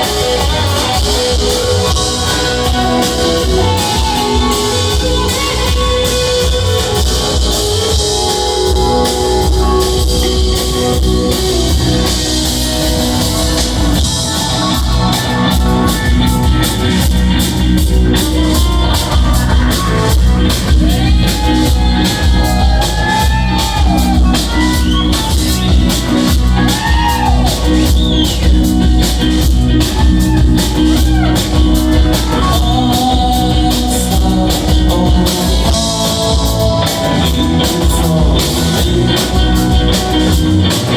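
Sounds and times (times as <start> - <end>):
lead guitar line bending notes: 0.0 - 40.9
rock band playing: 0.0 - 40.9.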